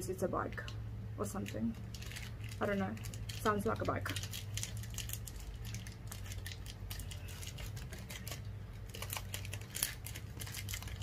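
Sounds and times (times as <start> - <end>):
plastic wrapper crinkling: 1.3 - 11.0.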